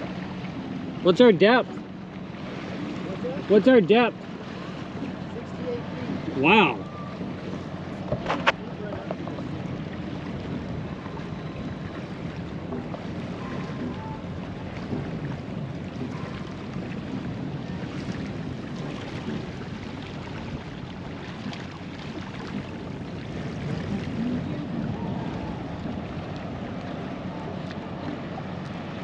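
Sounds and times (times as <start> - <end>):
water noise: 0.0 - 29.0
wind buffeting microphone: 4.2 - 29.0.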